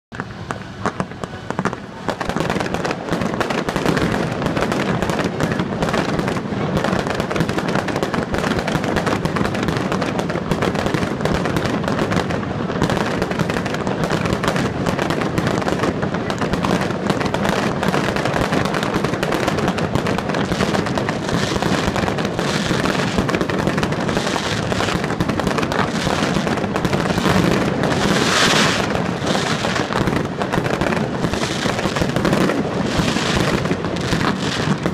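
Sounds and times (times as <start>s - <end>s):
fireworks bangs: 0.1s - 34.9s
fireworks crackling: 0.1s - 34.9s.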